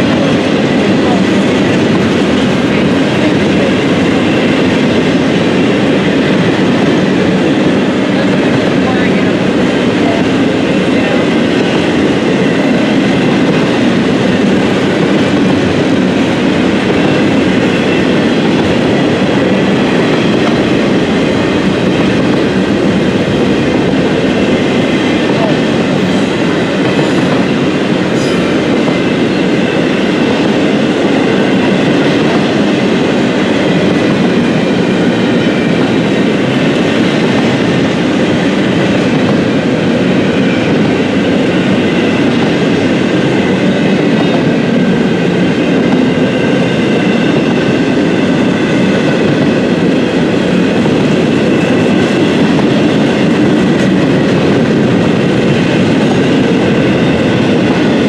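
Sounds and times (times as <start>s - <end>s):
train cars rumbling on rails: 0.0s - 58.0s.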